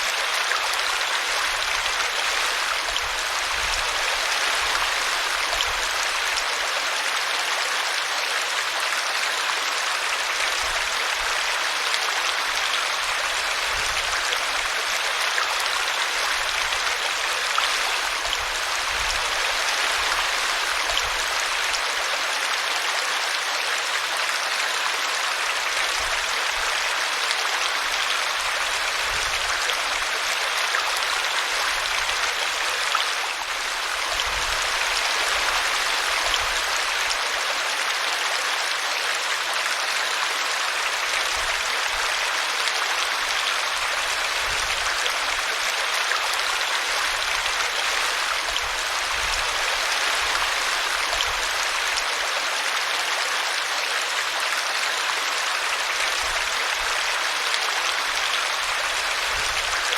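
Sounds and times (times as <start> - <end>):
brook babbling over a root: 0.0 - 59.9.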